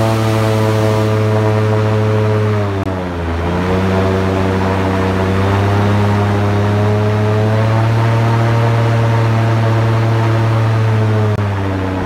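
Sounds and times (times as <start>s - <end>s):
airboat engine and fan running: 0.0s - 12.0s.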